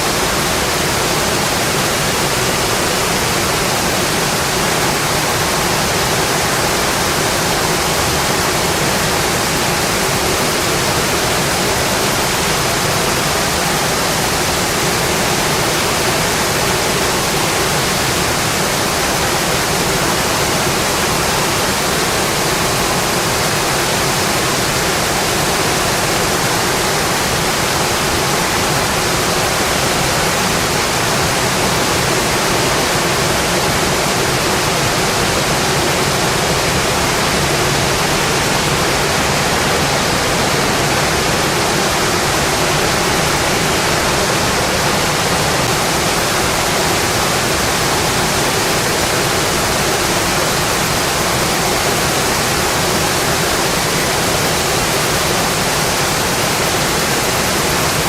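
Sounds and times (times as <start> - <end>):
dense rainfall hiss: 0.0 - 58.0.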